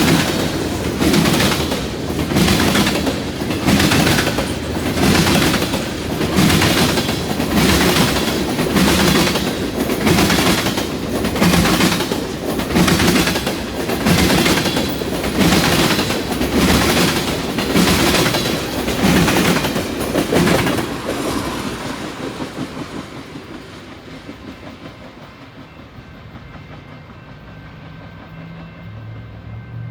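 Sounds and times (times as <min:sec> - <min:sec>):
train wheels clattering over rail joints: 0:00.0 - 0:27.0.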